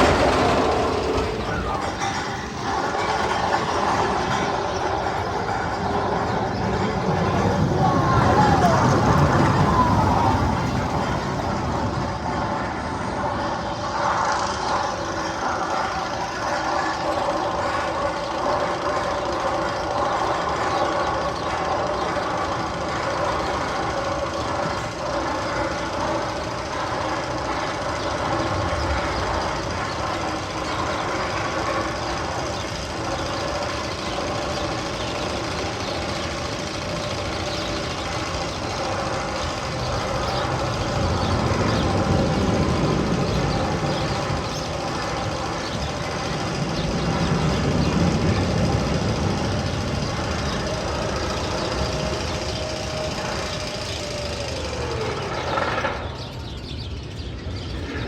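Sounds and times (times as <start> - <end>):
low rumble: 0.0 - 58.0
machine-like drone of held tones: 0.0 - 58.0.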